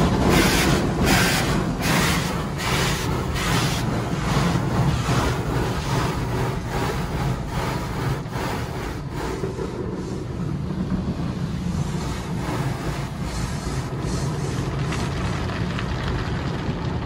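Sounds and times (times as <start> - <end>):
low machinery hum: 0.0 - 17.0
water spraying on a car: 0.0 - 17.0.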